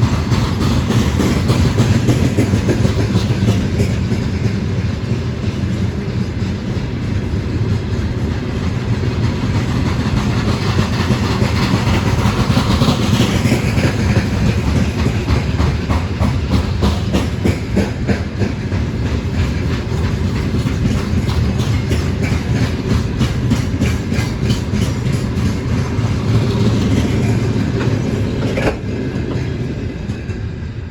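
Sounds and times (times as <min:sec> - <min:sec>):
train wheels clacking over rail joints: 0:00.0 - 0:30.6
low train rumble: 0:00.0 - 0:30.9.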